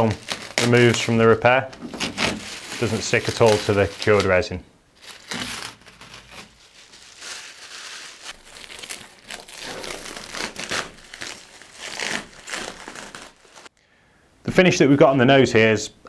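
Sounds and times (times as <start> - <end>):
plastic film peeling and crinkling: 0.0 - 13.7.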